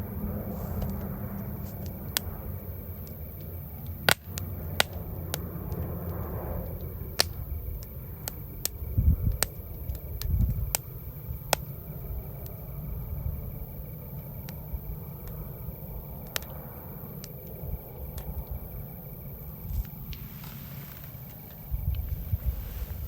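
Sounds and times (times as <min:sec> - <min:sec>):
campfire crackling and popping: 0:00.0 - 0:23.0
low rumble: 0:00.0 - 0:23.0.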